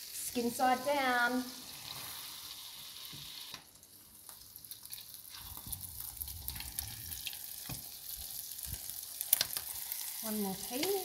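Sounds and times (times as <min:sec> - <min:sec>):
fish sizzling in a frying pan: 0:00.0 - 0:11.0
oil popping crackles: 0:01.4 - 0:11.0.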